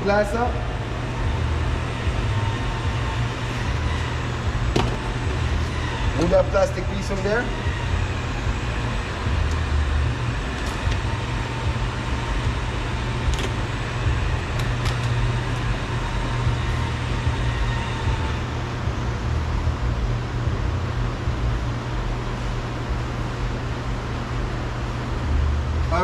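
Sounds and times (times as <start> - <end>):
car engine idling: 0.0 - 24.4.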